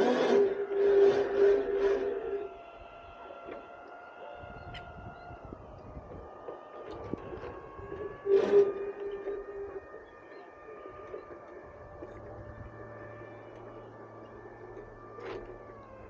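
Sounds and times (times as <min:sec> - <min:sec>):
faint steady whining tones: 0:00.0 - 0:16.0
held humming tone: 0:00.0 - 0:16.0.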